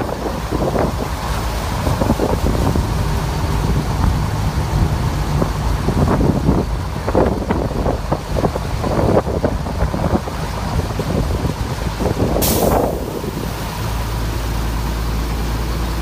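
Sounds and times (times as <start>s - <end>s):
water splashing and churning: 0.0s - 16.0s
wind buffeting microphone: 0.0s - 16.0s.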